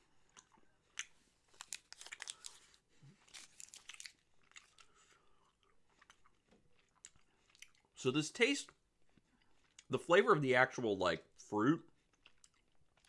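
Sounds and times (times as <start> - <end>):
person chewing candy: 0.0 - 10.1, 11.8 - 13.0.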